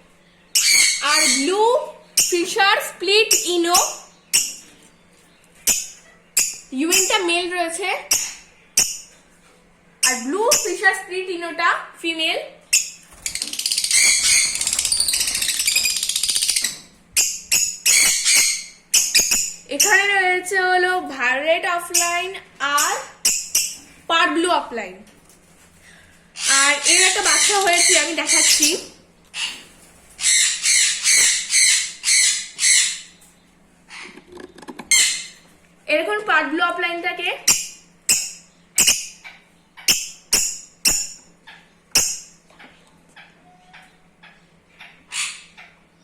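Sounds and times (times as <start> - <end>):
lovebirds chattering: 0.0 - 25.0, 25.7 - 35.5, 36.9 - 46.0.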